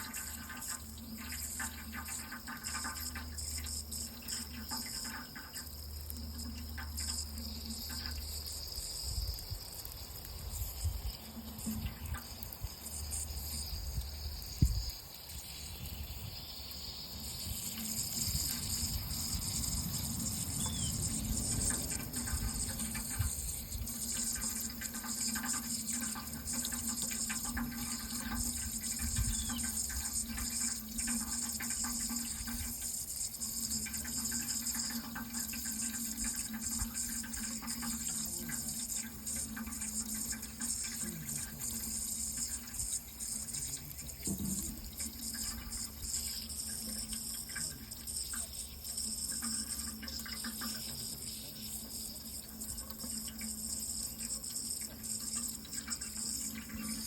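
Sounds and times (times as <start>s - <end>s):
faint steady hum: 0.0s - 57.0s
water running: 0.0s - 57.0s.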